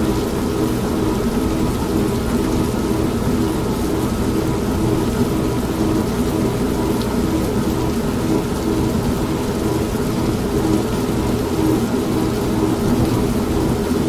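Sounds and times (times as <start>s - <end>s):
steady rain: 0.0s - 14.0s
washing machine motor hum: 0.0s - 14.0s.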